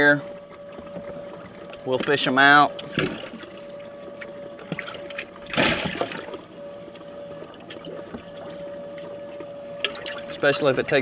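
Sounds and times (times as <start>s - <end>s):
pump humming: 0.0s - 11.0s
water sloshing and splashing: 0.0s - 11.0s.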